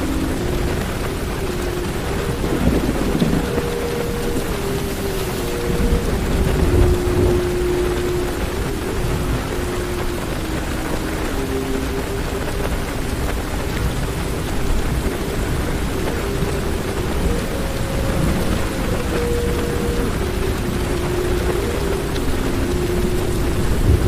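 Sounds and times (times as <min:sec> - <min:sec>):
heavy rain drumming on car roof: 0:00.0 - 0:24.0
low rumble of thunder: 0:00.0 - 0:24.0.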